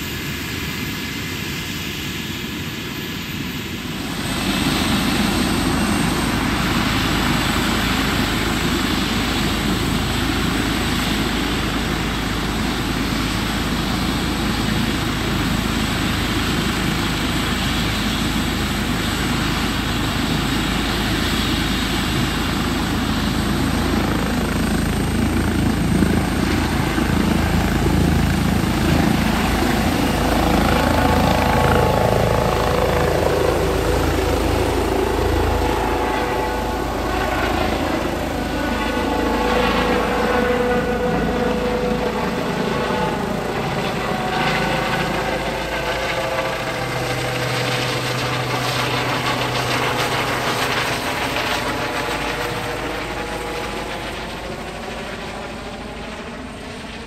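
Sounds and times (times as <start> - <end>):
helicopter turbine and rotor noise: 0.0 - 57.0.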